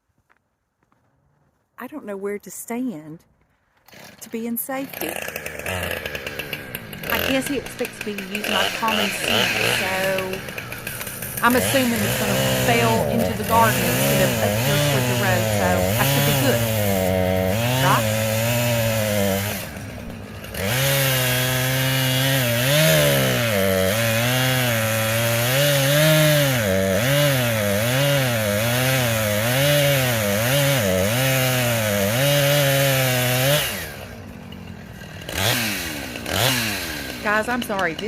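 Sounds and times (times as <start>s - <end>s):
chainsaw cutting wood: 3.8s - 38.0s.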